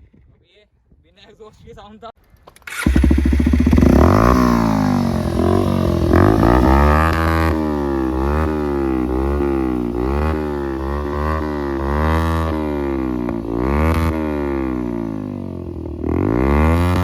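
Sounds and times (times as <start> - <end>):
open-piped motorcycle engine revving: 2.6 - 17.0.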